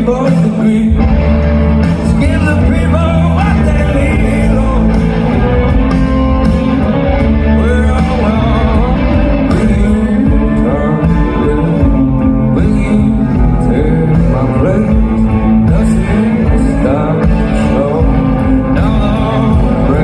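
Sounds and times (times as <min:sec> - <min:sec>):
live rock band playing: 0:00.0 - 0:20.0
male lead vocal: 0:00.0 - 0:20.0.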